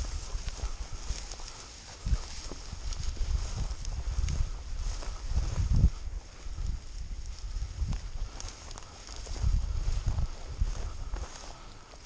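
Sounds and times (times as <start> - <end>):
footsteps through dry grass: 0.0 - 12.0.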